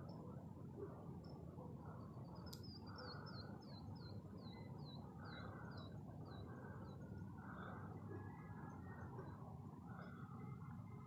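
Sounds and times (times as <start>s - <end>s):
faint bird song: 0.0s - 11.0s
low steady background noise: 0.0s - 11.0s.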